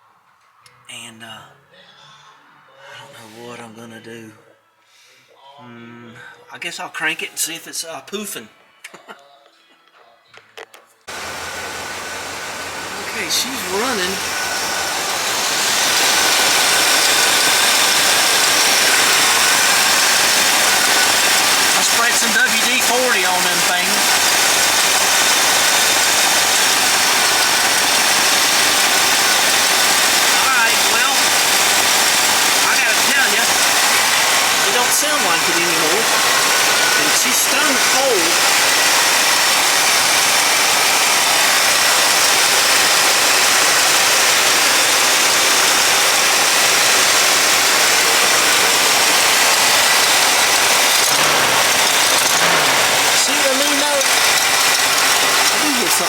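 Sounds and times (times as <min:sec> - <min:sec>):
engine idling: 0:11.1 - 0:56.0
exhaust leak puffing: 0:11.1 - 0:56.0.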